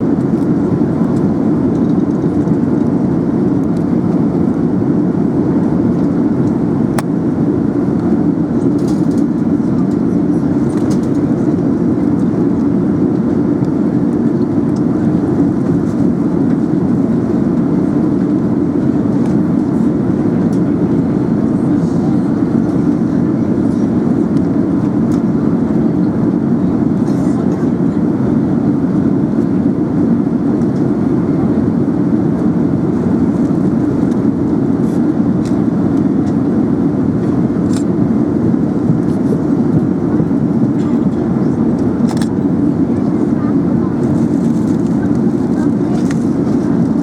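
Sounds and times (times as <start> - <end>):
airplane cabin engine roar: 0.0 - 47.0.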